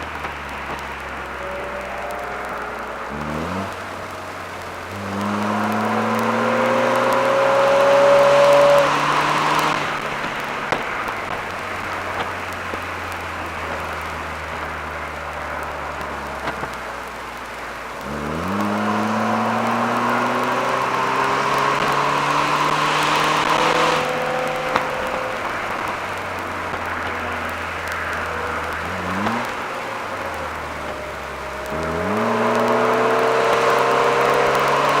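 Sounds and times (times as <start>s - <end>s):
car engine accelerating with whine: 0.0s - 35.0s.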